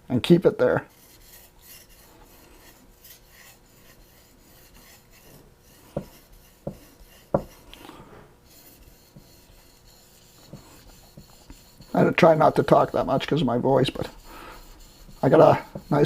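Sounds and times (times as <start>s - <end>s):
knife rasping on whetstone: 0.9s - 16.0s.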